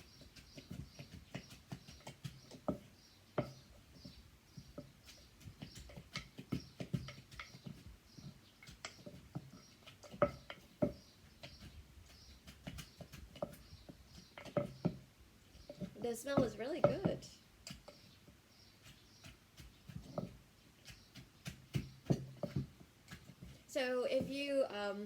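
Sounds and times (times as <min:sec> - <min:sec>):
pestle knocking in mortar: 0:00.0 - 0:24.4.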